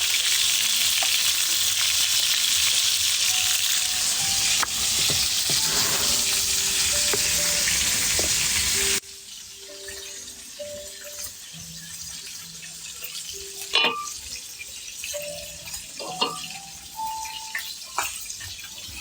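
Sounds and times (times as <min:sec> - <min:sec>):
sizzling over a wood fire: 0:00.0 - 0:19.0.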